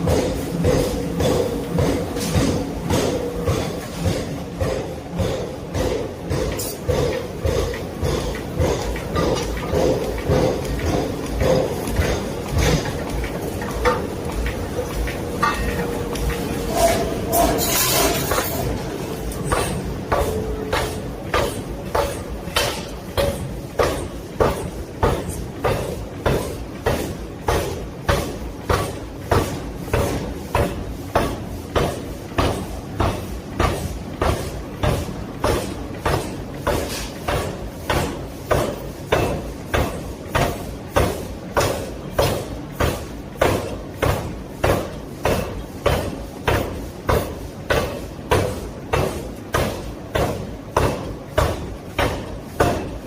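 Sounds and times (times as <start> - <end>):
forging hammer striking steel: 0.1 - 52.9.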